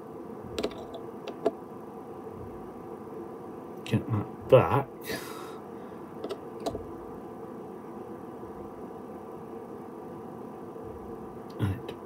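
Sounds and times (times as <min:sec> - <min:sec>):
steady low hum with tones: 0:00.0 - 0:12.0.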